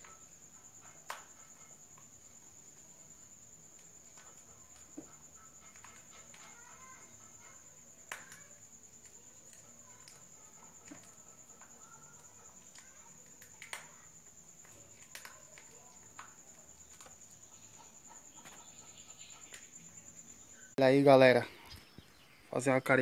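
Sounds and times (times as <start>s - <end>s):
high-pitched insect trill: 0.0s - 23.0s.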